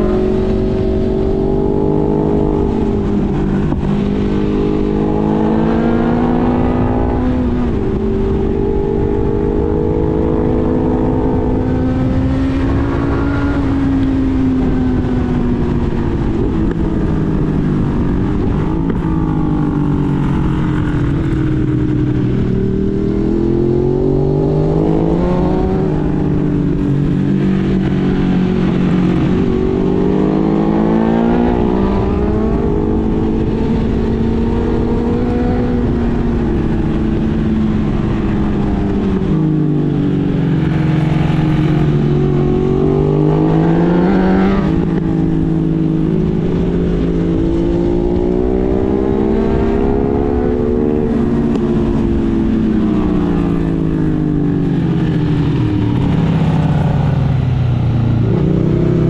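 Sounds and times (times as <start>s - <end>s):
motorcycle engine accelerating: 0.0s - 59.0s
wind rush: 0.0s - 59.0s.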